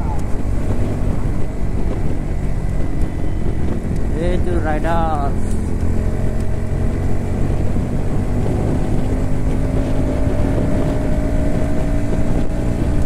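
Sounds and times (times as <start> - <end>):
motorcycle engine running: 0.0 - 13.0
wind rushing past microphone: 0.0 - 13.0.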